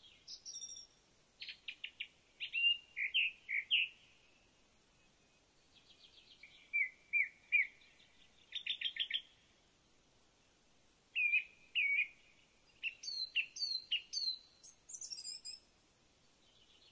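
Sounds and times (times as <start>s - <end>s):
birds chirping and trilling: 0.0s - 9.5s, 11.2s - 15.6s.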